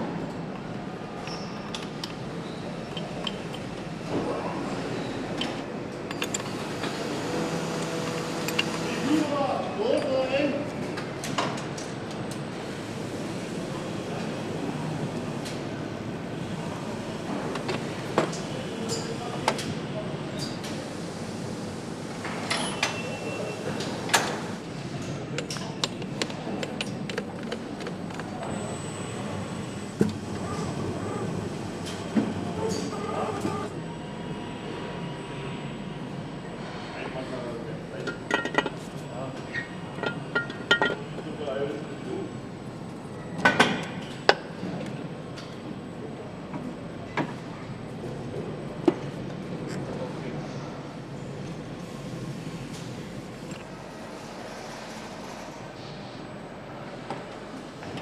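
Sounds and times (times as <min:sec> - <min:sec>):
machinery hum: 0:00.0 - 0:58.0.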